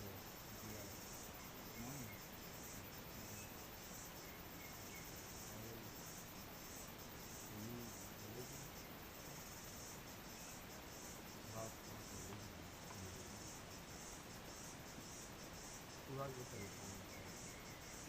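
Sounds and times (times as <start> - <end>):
insects chirping in pulsed bursts: 0.0 - 18.0.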